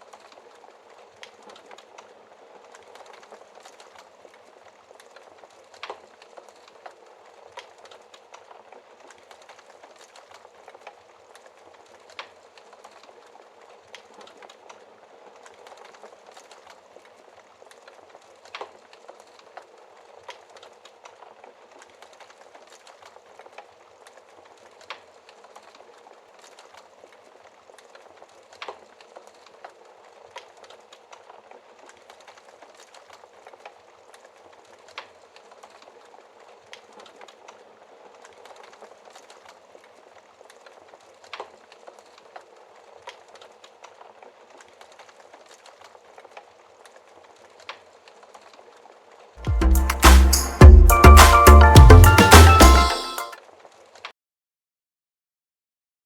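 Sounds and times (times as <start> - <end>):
sharp fire pops: 0.0 - 51.4
wood fire crackling: 0.0 - 54.1.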